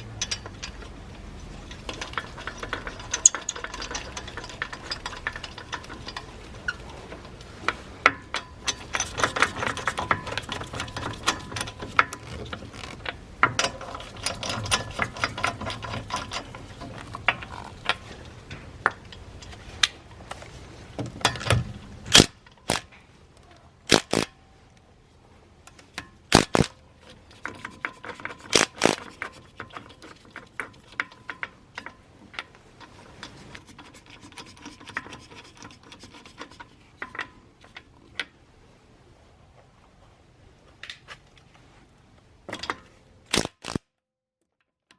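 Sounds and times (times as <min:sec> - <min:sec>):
low steady hum: 0:00.0 - 0:43.6.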